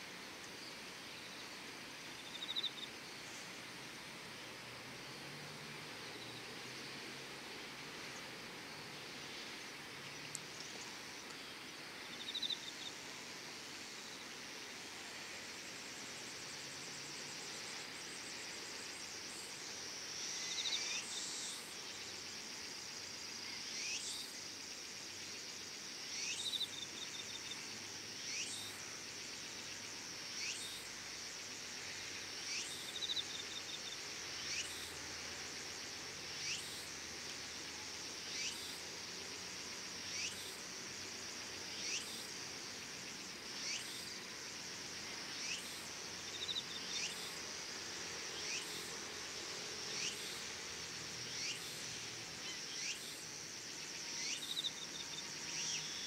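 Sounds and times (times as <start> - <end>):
rising insect chirp: 0.0 - 56.0
high-pitched insect trill: 1.3 - 3.4, 10.1 - 13.0, 15.2 - 56.0.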